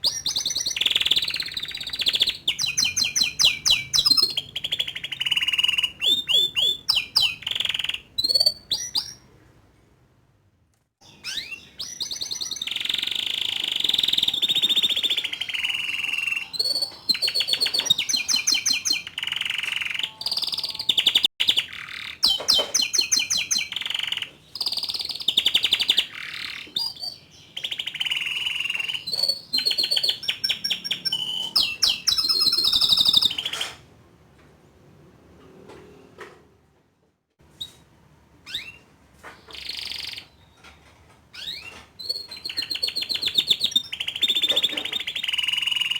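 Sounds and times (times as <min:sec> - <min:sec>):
bird chirps: 0:00.0 - 0:09.3, 0:11.0 - 0:33.8, 0:38.4 - 0:45.9
canary singing trills: 0:00.0 - 0:09.3, 0:11.0 - 0:33.8, 0:38.4 - 0:45.9.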